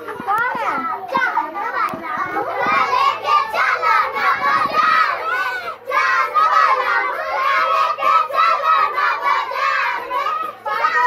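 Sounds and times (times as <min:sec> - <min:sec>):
children shouting and chattering: 0:00.0 - 0:11.0.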